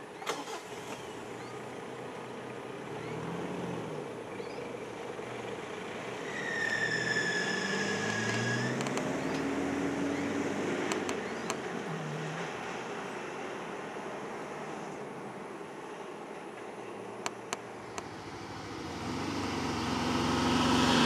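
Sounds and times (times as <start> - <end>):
car engines running: 0.0 - 21.0.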